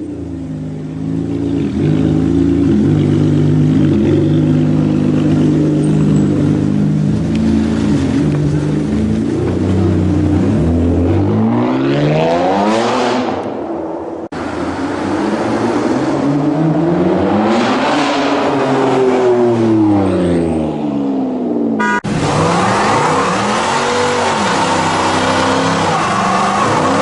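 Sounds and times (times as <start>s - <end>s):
car engine revving and accelerating: 1.2s - 13.5s, 14.4s - 27.0s.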